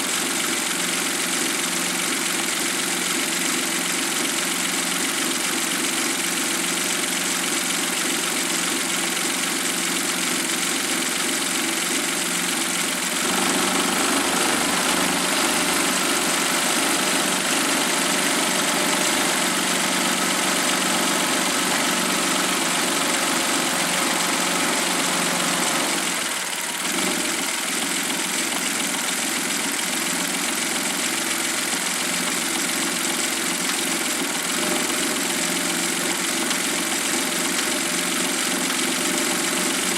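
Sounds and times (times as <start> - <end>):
small turbo engine idling: 0.0 - 39.9.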